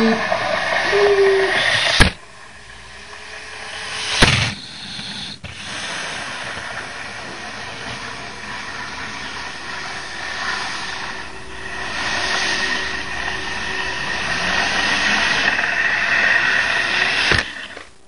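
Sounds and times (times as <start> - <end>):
model trains running on track: 0.0 - 17.9.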